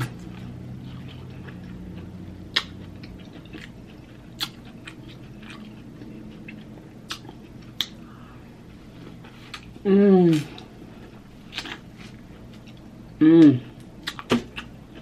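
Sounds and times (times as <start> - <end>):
person chewing food: 0.0 - 12.9, 13.6 - 15.0
low hum: 0.0 - 15.0.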